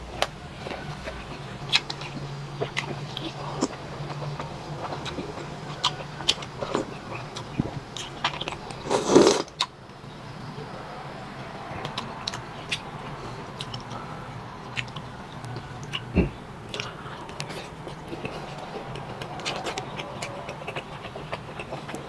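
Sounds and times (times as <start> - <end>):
person chewing food: 0.0 - 9.8, 11.7 - 22.0.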